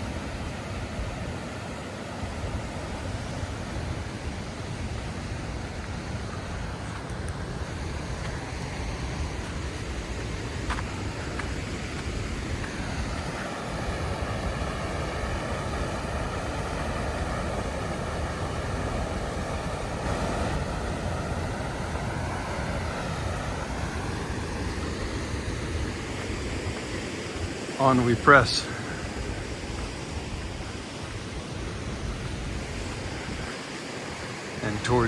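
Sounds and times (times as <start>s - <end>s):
faint whine of steady tones: 0.0s - 35.0s
waterfall rushing: 0.0s - 35.0s.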